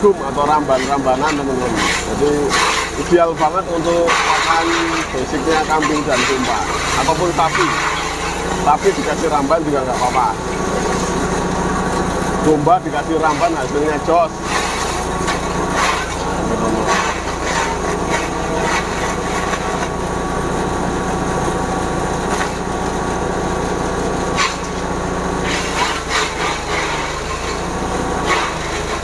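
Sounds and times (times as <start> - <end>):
diesel engine hum: 0.0 - 29.0
grass being chopped: 0.2 - 20.1, 22.2 - 23.0, 24.1 - 29.0.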